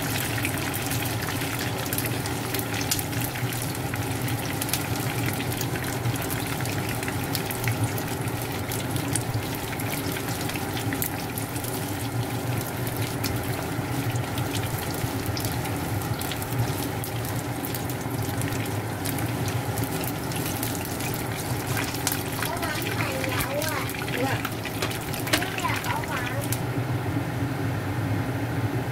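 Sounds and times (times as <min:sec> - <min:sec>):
chicken frying in hot oil: 0:00.0 - 0:28.9.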